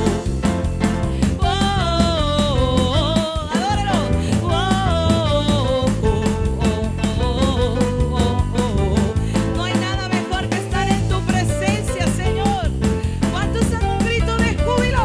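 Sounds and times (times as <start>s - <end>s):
person singing: 0.0s - 0.6s, 1.2s - 12.7s, 13.3s - 15.0s
drum-kit beat: 0.0s - 15.0s
worship band music: 0.0s - 15.0s.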